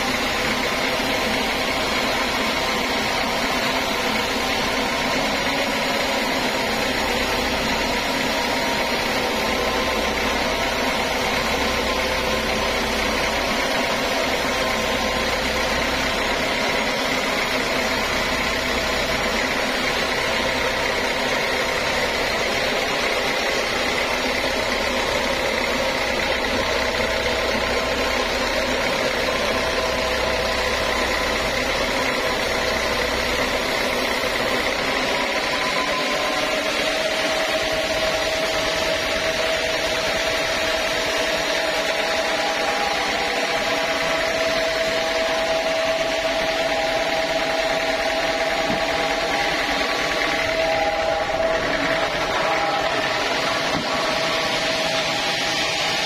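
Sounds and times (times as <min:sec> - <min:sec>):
band sawmill machine drone: 0:00.0 - 0:56.0
faint machine whine: 0:00.0 - 0:56.0.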